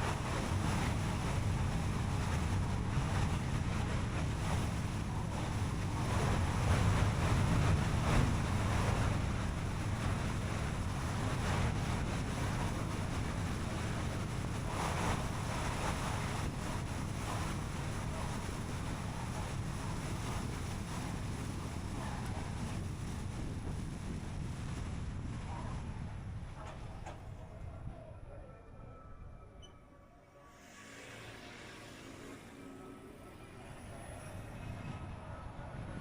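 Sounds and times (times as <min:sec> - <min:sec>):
wind rush: 0:00.0 - 0:29.7, 0:30.5 - 0:36.0.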